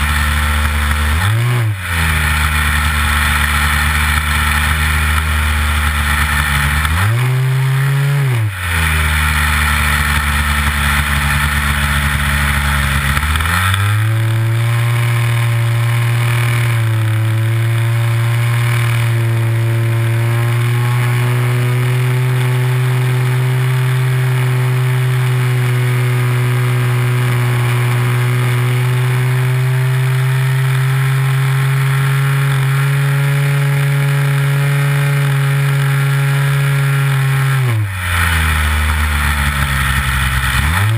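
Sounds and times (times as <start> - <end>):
model airplane engine: 0.0 - 40.9.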